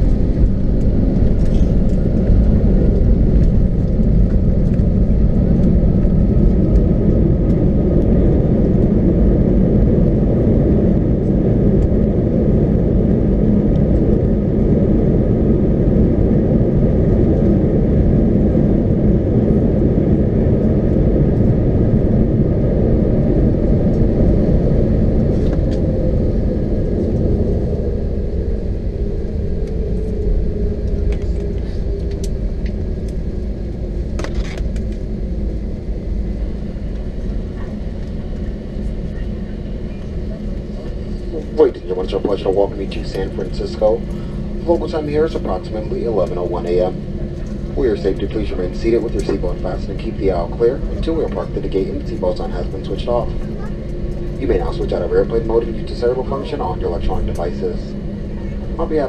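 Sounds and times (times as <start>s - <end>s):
aircraft cabin rumble: 0.0s - 59.0s
jet engines running: 0.0s - 59.0s.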